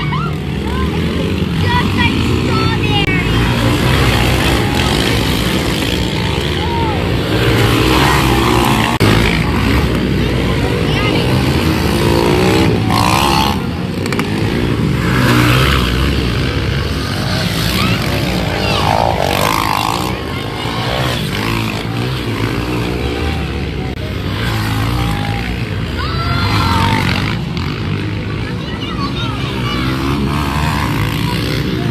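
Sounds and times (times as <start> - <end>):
pit bike engines revving: 0.0 - 31.9.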